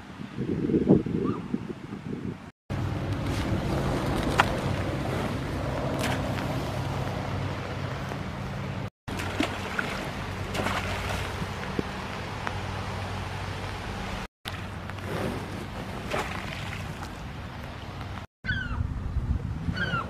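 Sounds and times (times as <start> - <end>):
shoreline noise: 2.7 - 18.9.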